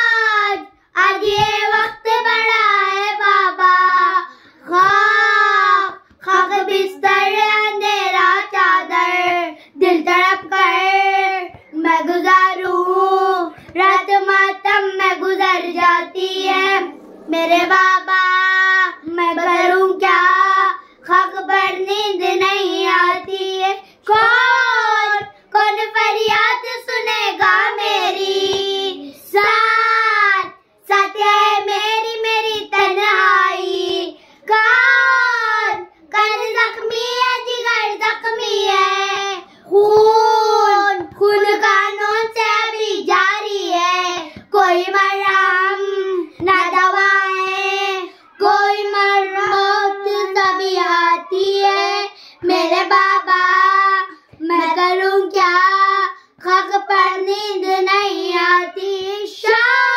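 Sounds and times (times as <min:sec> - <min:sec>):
girls singing in unison: 0:00.0 - 0:59.9.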